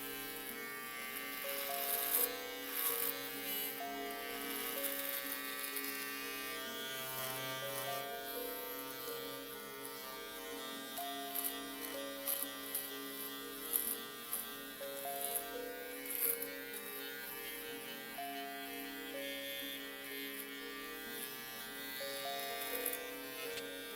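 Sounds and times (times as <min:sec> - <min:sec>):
electric shaver buzzing: 0:00.0 - 0:23.9.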